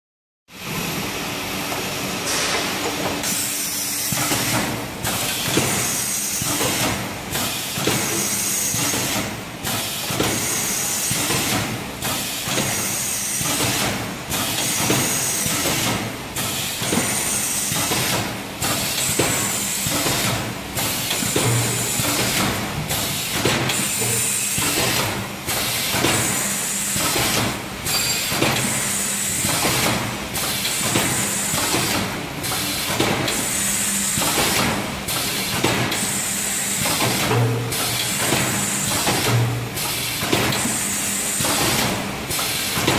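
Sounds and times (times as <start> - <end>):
packaging machine hissing: 2.2 - 42.9.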